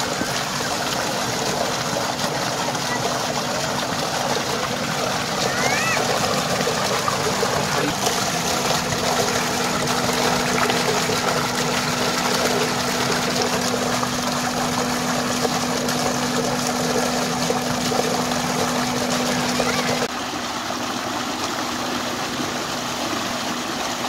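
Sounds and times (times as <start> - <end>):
steady hum: 0.0 - 20.1
water gushing into a tank: 0.0 - 24.0.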